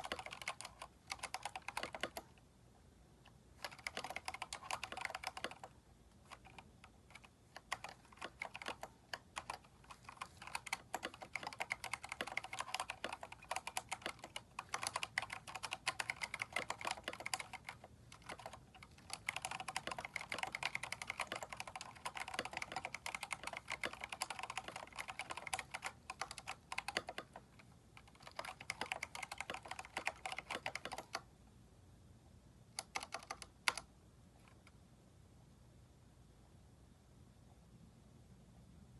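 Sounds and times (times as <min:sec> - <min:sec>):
typing on mechanical keyboard: 0:00.0 - 0:02.4, 0:03.2 - 0:31.3, 0:32.8 - 0:33.9.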